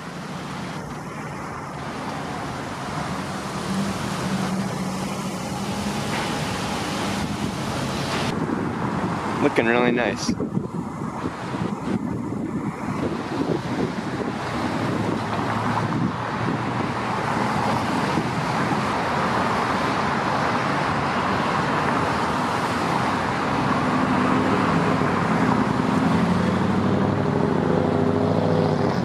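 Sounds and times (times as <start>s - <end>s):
passing cars: 0.0s - 29.0s
vehicle engine drone: 0.0s - 29.0s.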